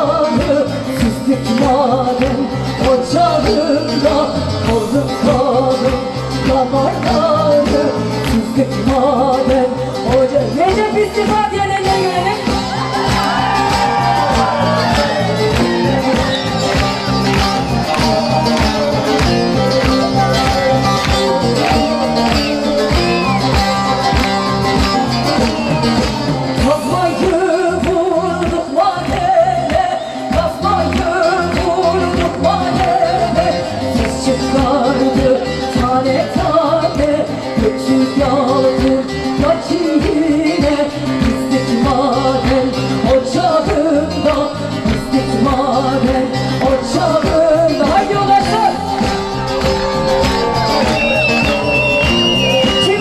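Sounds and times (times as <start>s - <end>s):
folk band playing: 0.0s - 53.0s
person singing: 0.0s - 53.0s.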